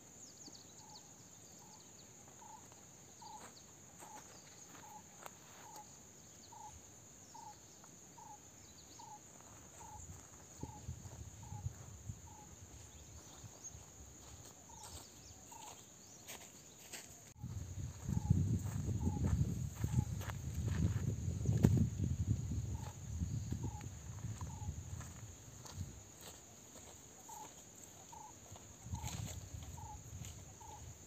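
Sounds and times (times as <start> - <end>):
high-pitched insect drone: 0.8 - 16.4, 17.4 - 31.0.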